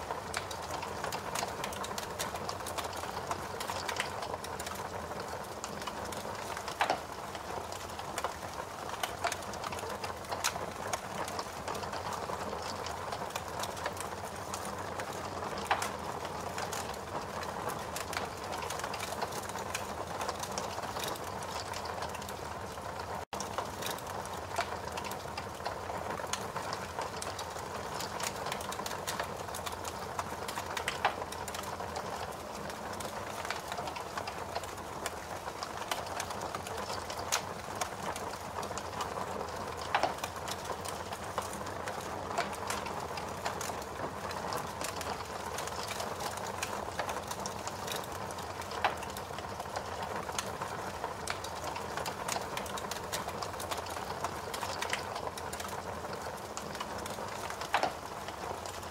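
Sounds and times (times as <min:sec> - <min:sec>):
fire crackles and pops: 0:00.0 - 0:58.9.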